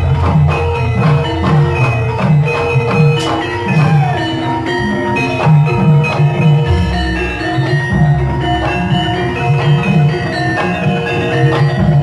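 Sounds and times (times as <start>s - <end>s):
gong-chimes and metallophones ringing: 0.0s - 12.0s.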